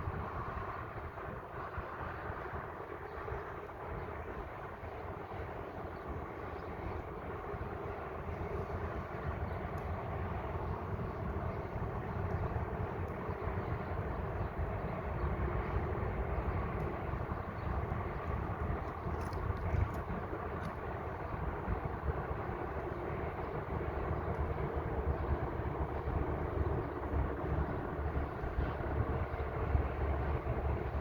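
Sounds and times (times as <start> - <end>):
vehicle traffic rumble: 0.0 - 31.0.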